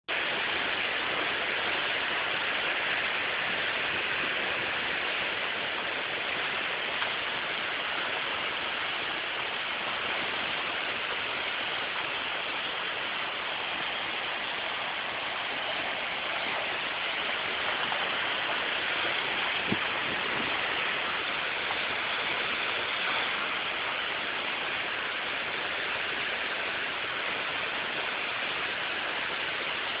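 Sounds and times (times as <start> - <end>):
stream water rushing: 0.1 - 30.0.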